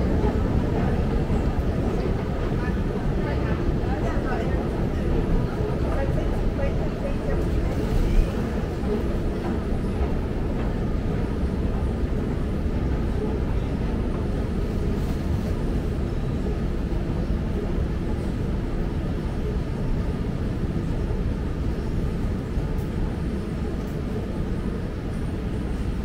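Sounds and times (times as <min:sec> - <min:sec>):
train rumble inside carriage: 0:00.0 - 0:26.0.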